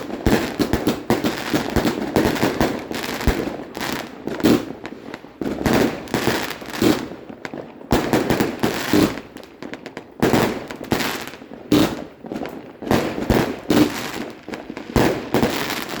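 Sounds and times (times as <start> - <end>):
fireworks bangs: 0.0 - 16.0
rapid small firework pops: 0.0 - 16.0.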